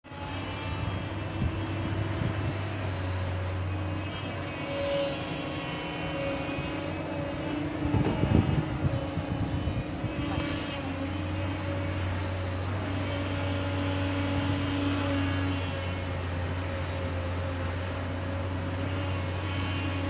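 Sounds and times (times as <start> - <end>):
heavy diesel engine running: 0.1 - 20.0.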